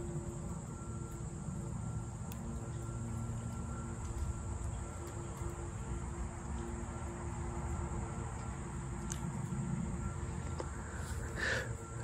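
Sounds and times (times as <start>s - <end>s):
distant leaf blower drone: 0.0s - 12.0s.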